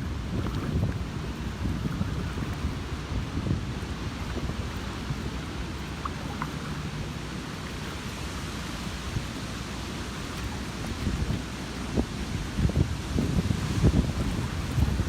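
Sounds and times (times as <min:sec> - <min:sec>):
hurricane wind: 0:00.0 - 0:15.0
rain: 0:00.0 - 0:15.0
wind buffeting microphone: 0:00.0 - 0:15.0.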